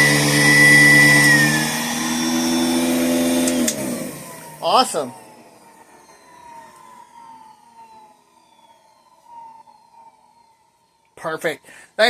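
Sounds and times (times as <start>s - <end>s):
vacuum cleaner motor winding down: 0.0s - 11.0s.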